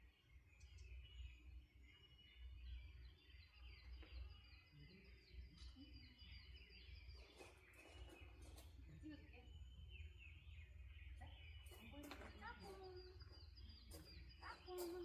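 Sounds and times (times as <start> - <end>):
birds singing faintly: 0.0 - 15.0.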